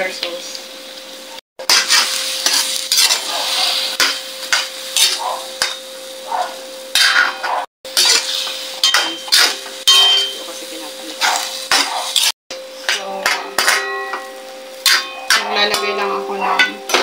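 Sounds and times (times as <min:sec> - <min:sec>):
sauce sizzling: 0:00.0 - 0:16.7
metal spatula scraping wok: 0:01.6 - 0:17.0.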